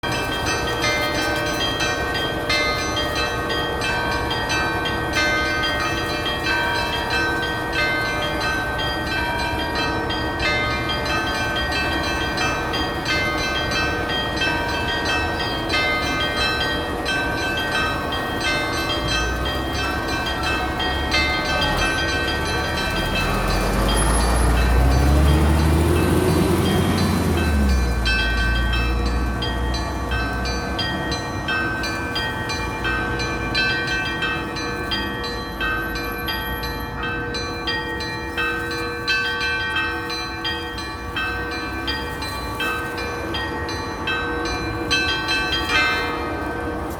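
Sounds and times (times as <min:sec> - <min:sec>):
church bells ringing: 0:00.0 - 0:46.9.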